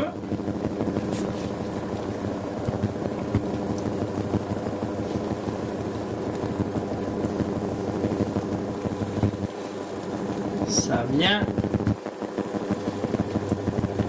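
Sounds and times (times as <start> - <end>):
steady hum: 0.0 - 14.0
egg sizzling in a pan: 0.1 - 14.0.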